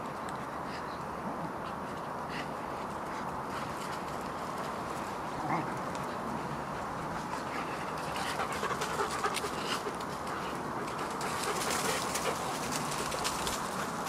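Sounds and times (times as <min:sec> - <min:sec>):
outdoor background noise: 0:00.0 - 0:14.0
dogs scuffling paws: 0:02.6 - 0:14.0
leaves rustling: 0:02.6 - 0:14.0.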